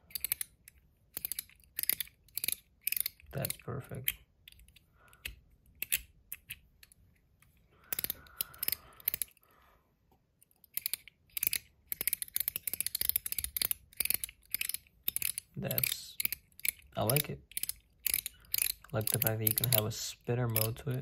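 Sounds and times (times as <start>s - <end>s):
fidget ratchet detent clicks: 0.1s - 7.0s, 7.9s - 9.4s, 10.4s - 21.0s.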